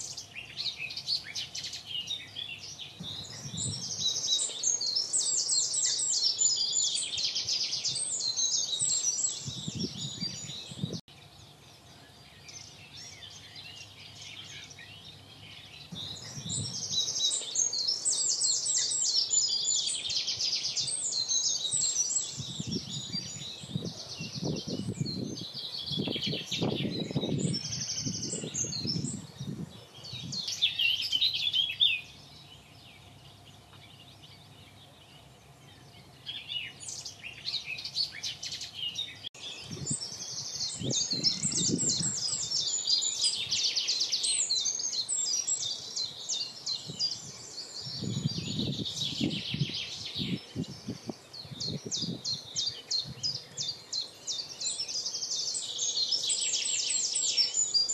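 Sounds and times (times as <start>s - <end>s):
birds trilling and chirping: 0.0s - 57.9s.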